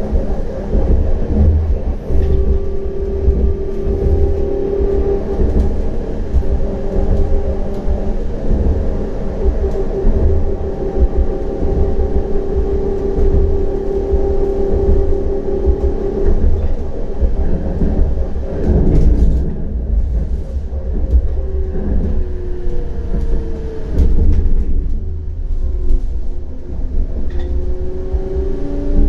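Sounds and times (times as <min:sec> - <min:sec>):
electric traction drive whine: 0:00.0 - 0:29.0
tram wheels rumbling on rail: 0:00.0 - 0:29.0.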